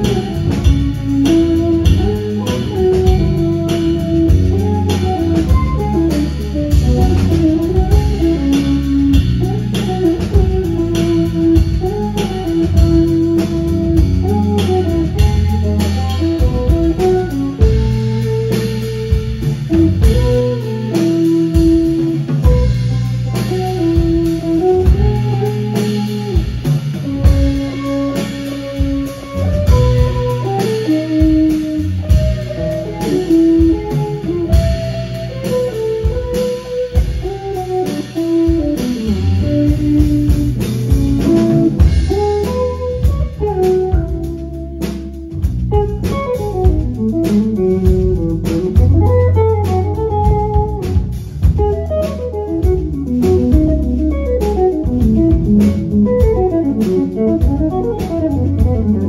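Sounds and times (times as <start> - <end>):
drum kit: 0.0 - 59.0
electric bass: 0.0 - 59.0
electric guitar improvising: 0.0 - 59.0.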